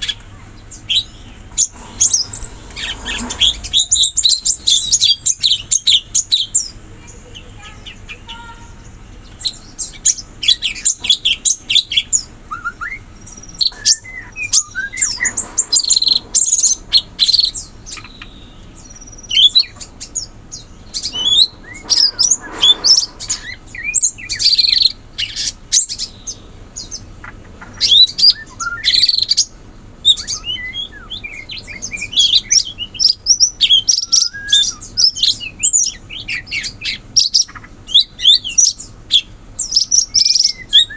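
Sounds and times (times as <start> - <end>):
birds chirping and whistling: 0.0 - 40.9.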